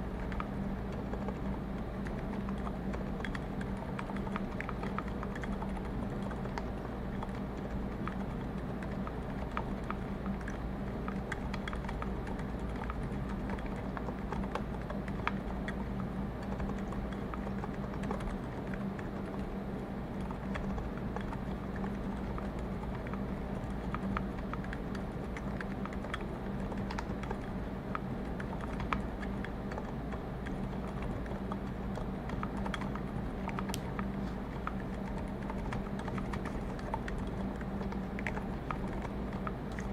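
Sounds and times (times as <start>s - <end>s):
soft mechanical keyboard typing: 0.0s - 39.9s
steady low hum: 0.0s - 39.9s.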